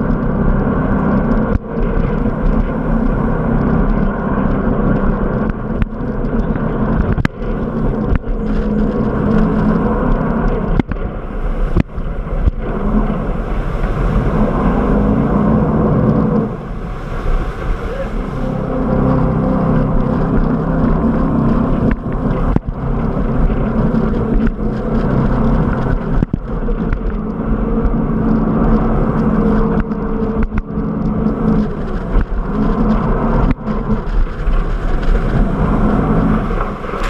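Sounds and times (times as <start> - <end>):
boat engine running: 0.0 - 37.0
water rushing along hull: 0.0 - 37.0.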